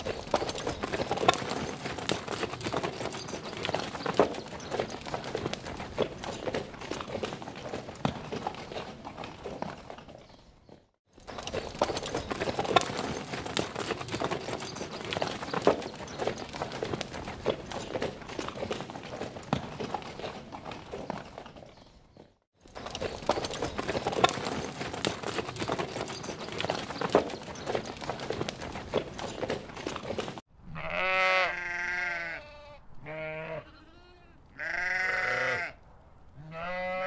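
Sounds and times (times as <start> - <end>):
horse hoofbeats on ground: 0.0 - 30.4.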